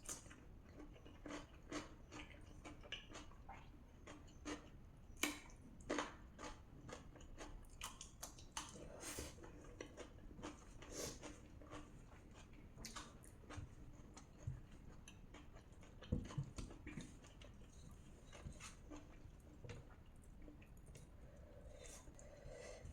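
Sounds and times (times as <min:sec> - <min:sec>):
person chewing with wet smacks: 0:00.0 - 0:22.9.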